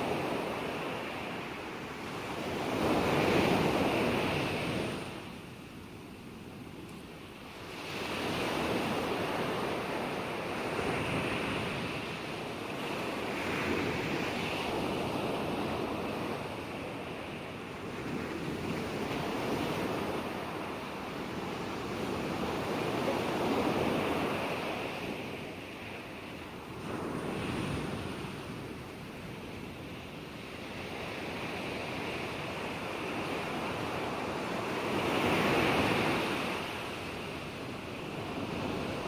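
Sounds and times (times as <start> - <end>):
ocean waves breaking: 7.5 - 39.0.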